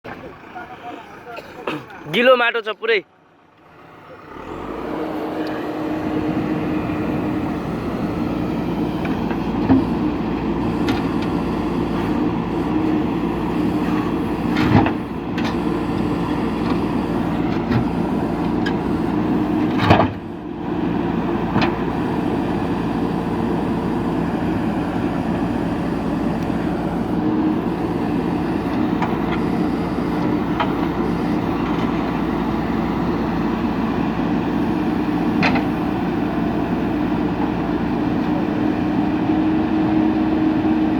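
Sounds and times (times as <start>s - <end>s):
diesel engine running: 3.2s - 40.9s.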